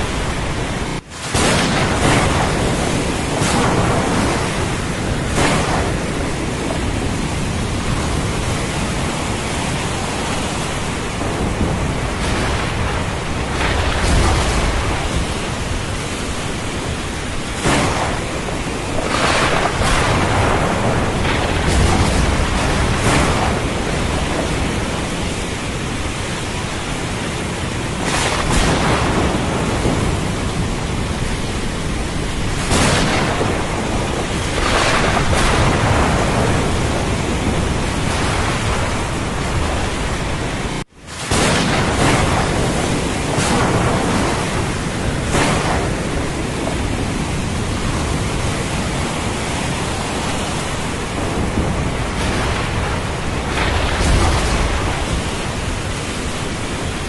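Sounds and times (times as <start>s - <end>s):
heavy rain hissing: 0.0s - 57.0s
thunder cracking and rumbling: 0.0s - 57.0s.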